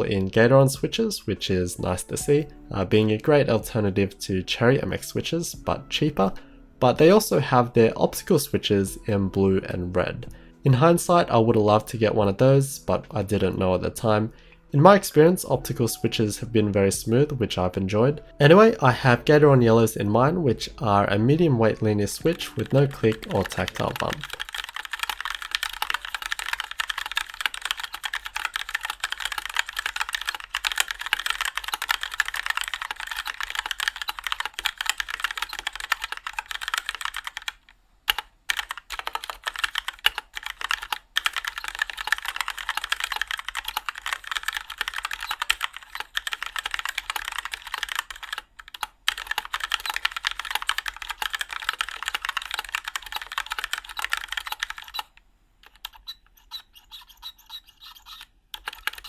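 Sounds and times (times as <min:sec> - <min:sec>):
fast mechanical keyboard typing: 0:00.0 - 0:14.2, 0:18.5 - 0:59.0.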